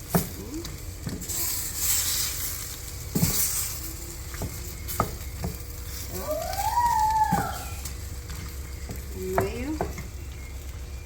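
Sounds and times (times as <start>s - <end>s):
chicken sizzling in a pot: 0.0s - 11.0s.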